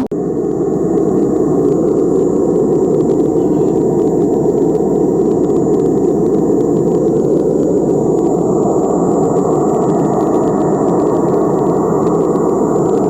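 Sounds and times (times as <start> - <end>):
loud rushing test noise: 0.0 - 13.0
thin high whine: 0.0 - 13.0.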